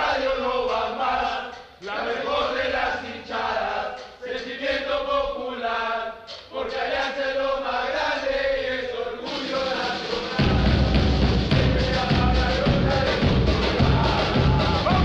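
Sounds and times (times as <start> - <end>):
supporters chanting song: 0.0 - 15.0.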